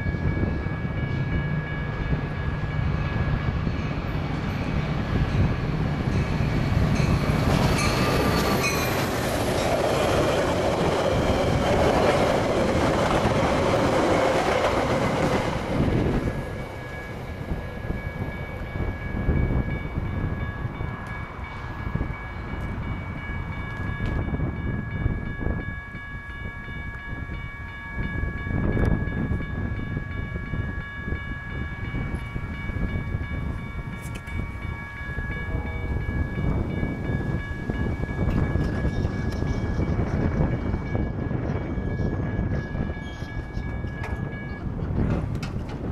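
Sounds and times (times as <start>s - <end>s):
train passing close by: 0.0s - 45.9s.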